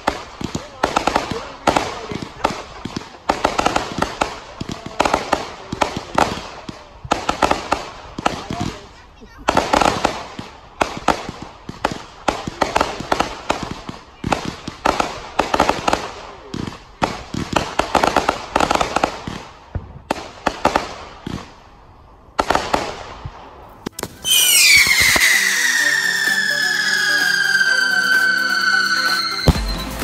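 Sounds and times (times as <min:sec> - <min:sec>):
fireworks launching and popping: 0:00.0 - 0:30.0.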